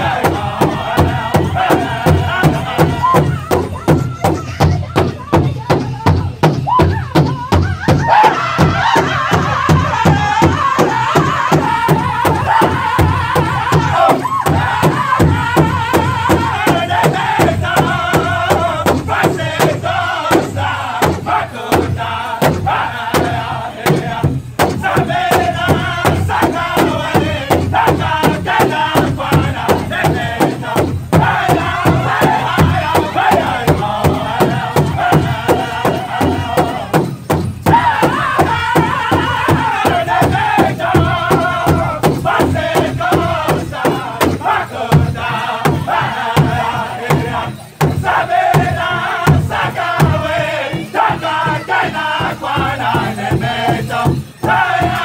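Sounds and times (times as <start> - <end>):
group chanting: 0.0 - 3.8, 7.9 - 55.0
large drum beating: 0.0 - 55.0.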